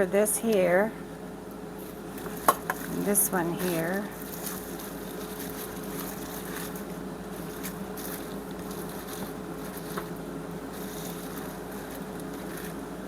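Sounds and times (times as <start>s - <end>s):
electric fan motor hum: 0.0s - 13.0s.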